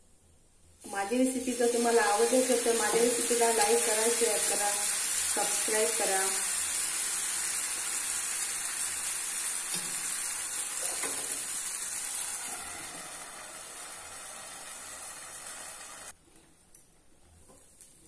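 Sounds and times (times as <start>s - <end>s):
batter sizzling on a griddle: 1.3s - 16.2s.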